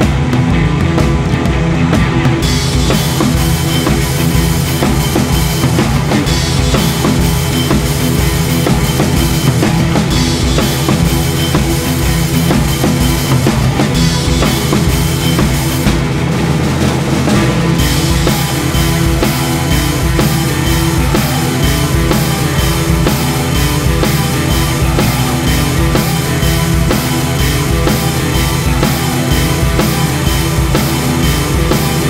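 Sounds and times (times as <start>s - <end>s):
rock music with drum beat: 0.0s - 32.0s.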